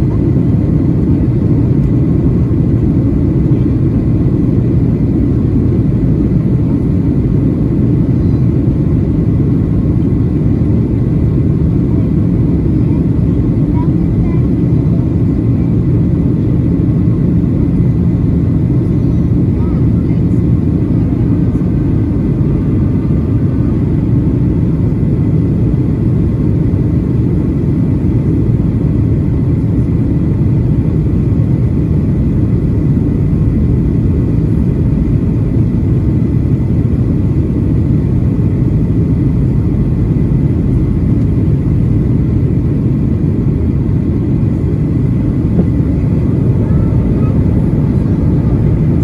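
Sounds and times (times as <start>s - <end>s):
airplane cabin roar: 0.0s - 49.0s
faint steady whine: 0.0s - 49.0s.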